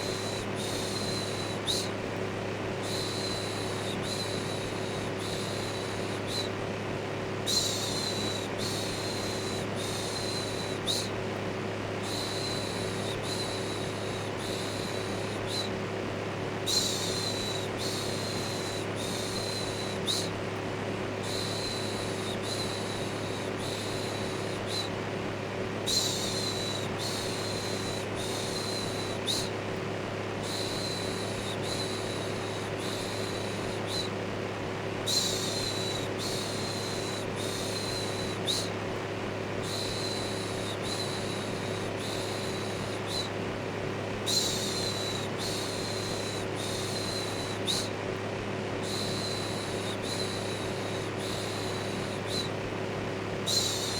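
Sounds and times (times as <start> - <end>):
electric fan humming: 0.0 - 53.9.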